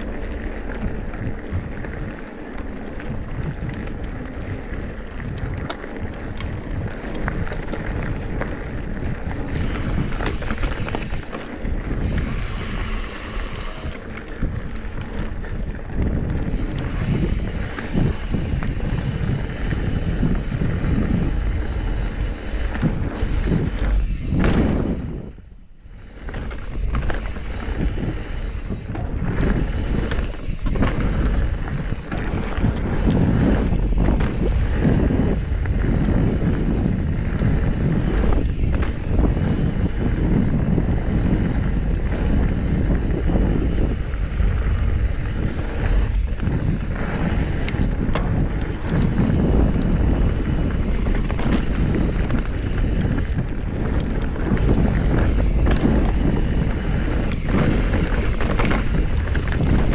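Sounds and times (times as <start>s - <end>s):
bike rattling: 0.0s - 59.9s
tyres rumbling on trail: 0.0s - 59.9s
wind on microphone: 0.0s - 59.9s.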